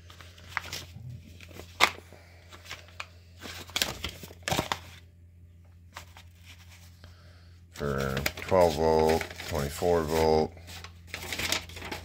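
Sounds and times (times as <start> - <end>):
paper sheets rustling: 0.0 - 5.0, 5.9 - 7.0, 7.8 - 12.0.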